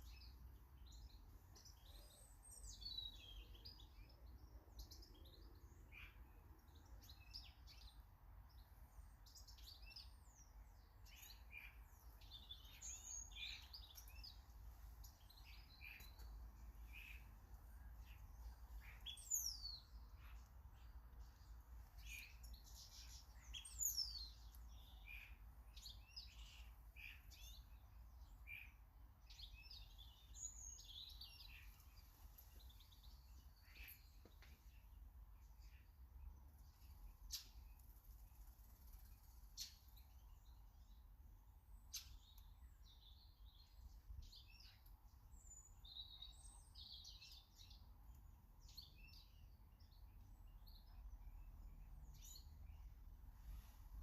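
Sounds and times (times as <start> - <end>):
garden birds chirping: 0.0 - 54.0.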